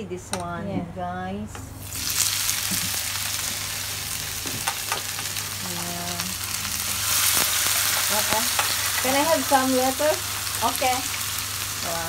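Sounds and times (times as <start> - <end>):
food sizzling in hot oil: 1.8 - 12.0.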